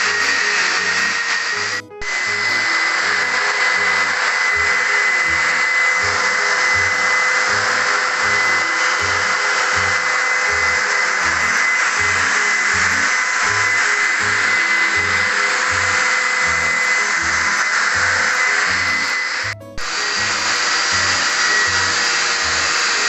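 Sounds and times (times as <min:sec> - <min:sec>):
background music with beat: 0:00.0 - 0:23.0
electric sander whining: 0:00.0 - 0:23.0.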